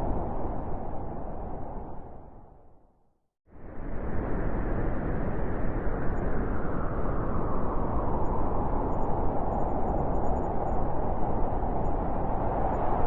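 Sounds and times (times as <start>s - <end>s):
blizzard wind rushing and howling: 0.0s - 2.9s, 3.5s - 13.0s.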